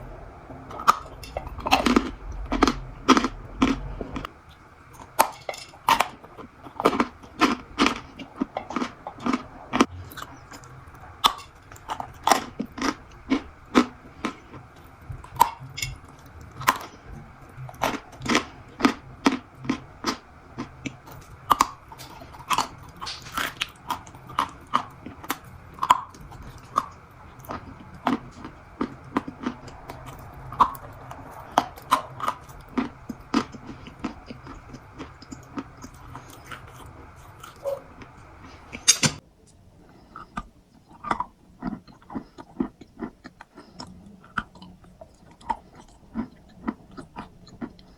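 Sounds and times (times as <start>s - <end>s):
crunchy food being chewed: 0.0s - 47.9s.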